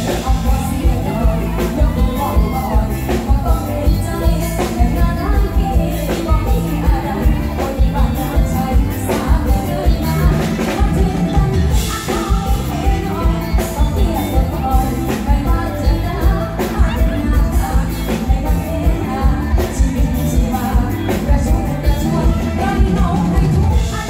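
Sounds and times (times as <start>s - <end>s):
full band playing: 0.0s - 24.0s
woman singing into a microphone: 0.0s - 24.0s.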